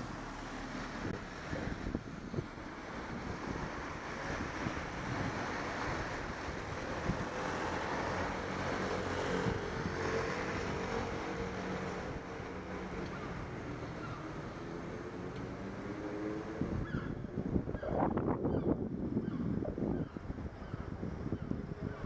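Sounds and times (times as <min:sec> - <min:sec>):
low road rumble: 0:00.0 - 0:22.0
wind rushing over microphone: 0:00.8 - 0:22.0.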